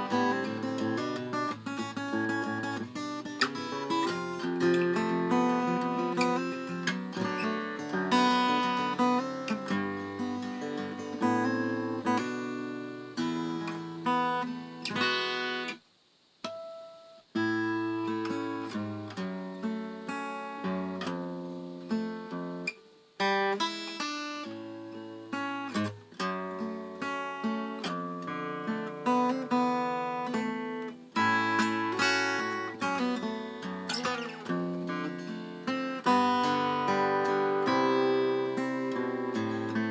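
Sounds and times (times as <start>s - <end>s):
acoustic guitar chords: 0.0s - 39.9s.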